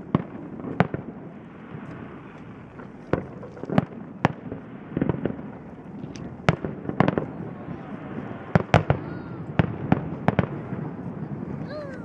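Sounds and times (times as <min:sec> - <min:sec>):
crackling firework pops: 0:00.0 - 0:12.0.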